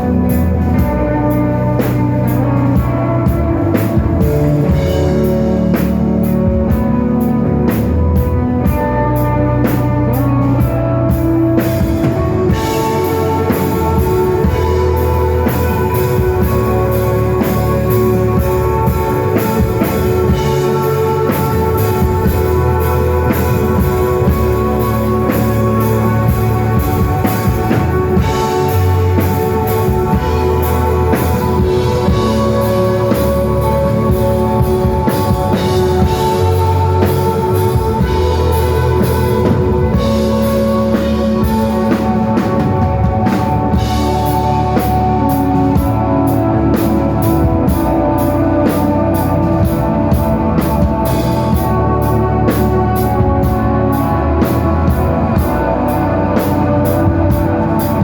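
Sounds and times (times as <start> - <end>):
drum kit steady beat: 0.0 - 58.0
electric guitar long notes: 0.0 - 58.0
rock band playing: 0.0 - 58.0.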